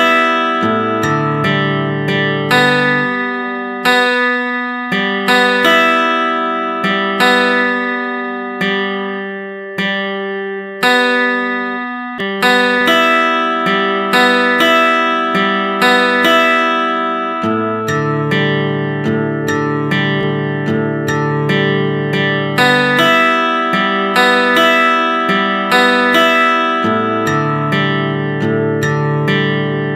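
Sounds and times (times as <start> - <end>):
plucked acoustic guitar chords: 0.0 - 29.9.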